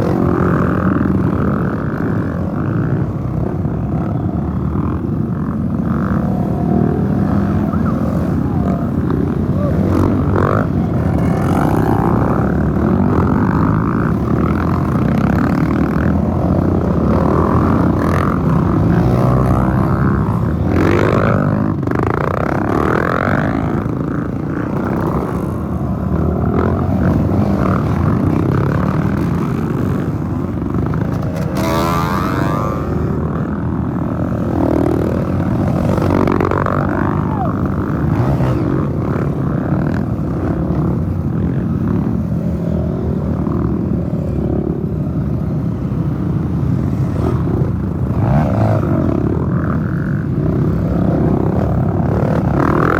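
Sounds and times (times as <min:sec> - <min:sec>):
dirt bikes revving past: 0:00.0 - 0:52.9.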